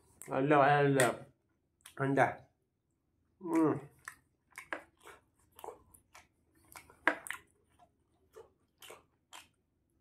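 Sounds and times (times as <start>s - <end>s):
man chewing food: 0.0s - 0.7s, 1.4s - 10.0s.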